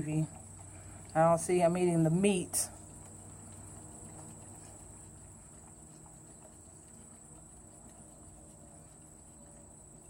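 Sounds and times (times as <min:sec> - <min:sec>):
dog licking food bowl: 0:00.0 - 0:10.0.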